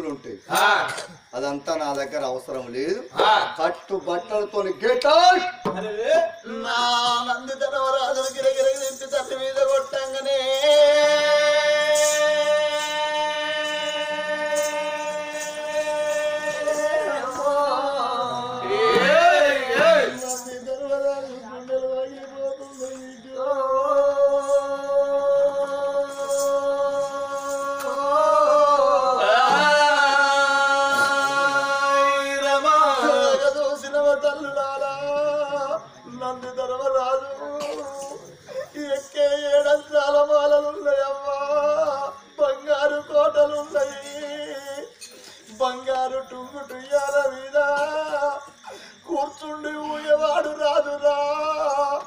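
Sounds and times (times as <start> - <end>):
voices singing folk song: 0.0 - 1.3, 5.6 - 52.0.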